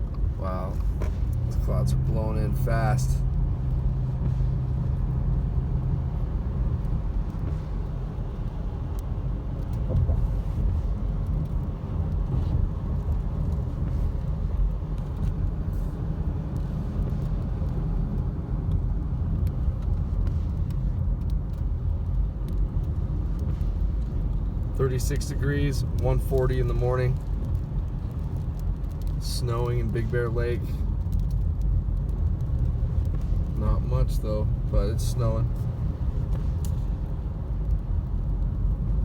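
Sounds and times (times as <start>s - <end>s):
car rumble from inside cabin: 0.0s - 39.0s.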